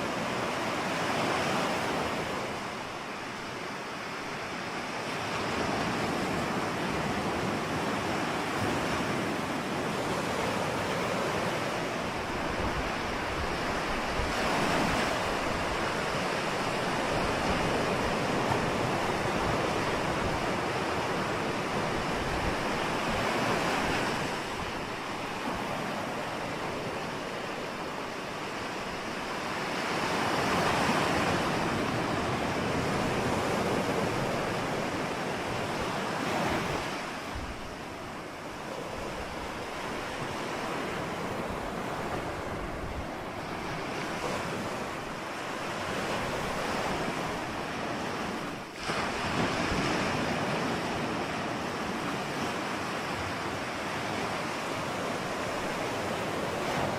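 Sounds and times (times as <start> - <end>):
ocean waves breaking: 0.0 - 56.9.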